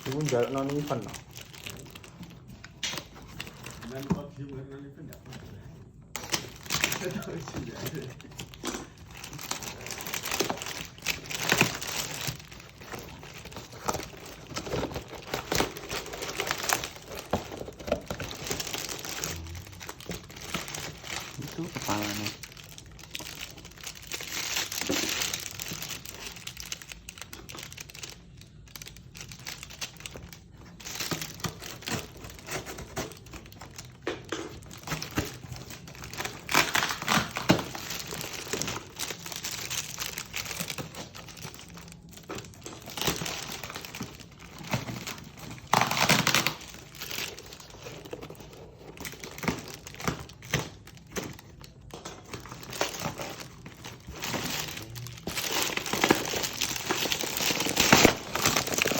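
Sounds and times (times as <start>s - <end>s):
packaging wrap crinkling: 0.0s - 58.9s.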